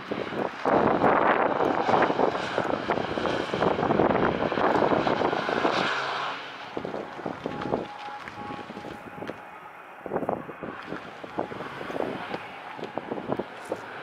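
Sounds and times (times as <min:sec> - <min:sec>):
car engine passing by: 0:00.0 - 0:14.0.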